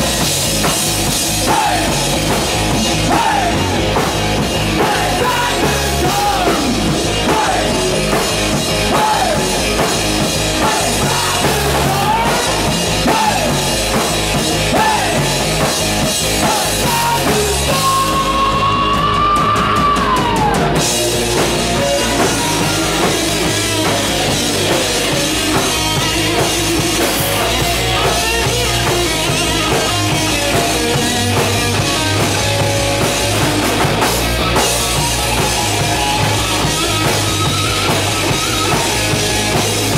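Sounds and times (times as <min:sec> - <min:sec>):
hard rock band playing: 0:00.0 - 0:39.9.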